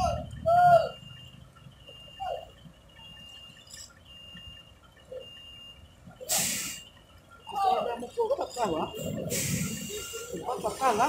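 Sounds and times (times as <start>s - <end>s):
truck warning beeper: 0.0s - 11.0s.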